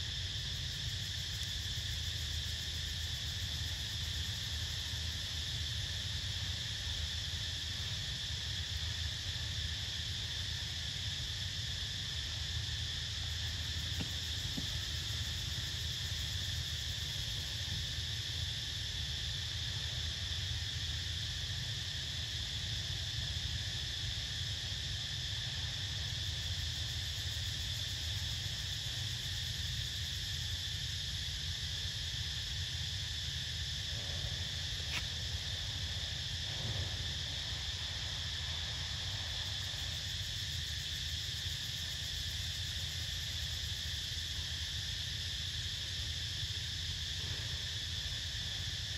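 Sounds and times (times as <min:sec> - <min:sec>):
forest insects droning: 0:00.0 - 0:48.9.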